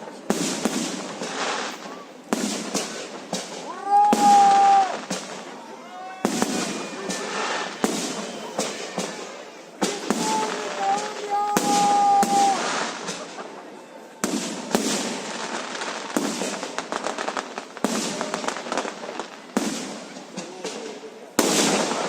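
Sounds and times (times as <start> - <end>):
firework bangs: 0.0 - 22.0
firework crackling: 0.0 - 22.0.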